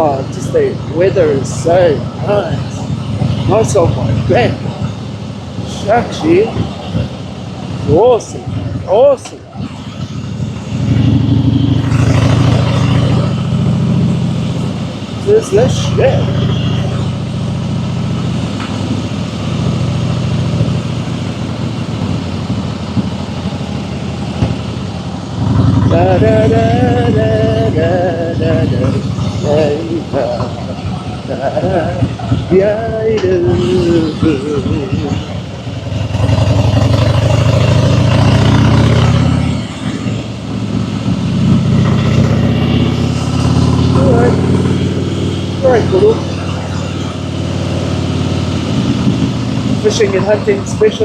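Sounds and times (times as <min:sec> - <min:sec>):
motorcycle engine rumble: 0:00.0 - 0:51.0.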